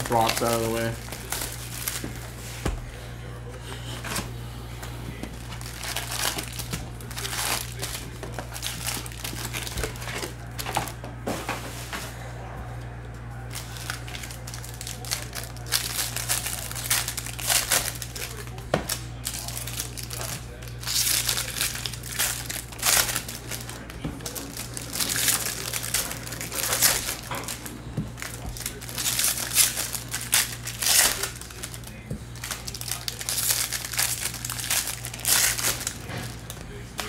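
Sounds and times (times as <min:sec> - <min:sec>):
foil pack tearing open: 0:00.0 - 0:02.0, 0:05.4 - 0:11.0, 0:13.5 - 0:37.0
foil wrappers crinkling: 0:00.0 - 0:12.2, 0:13.4 - 0:37.0.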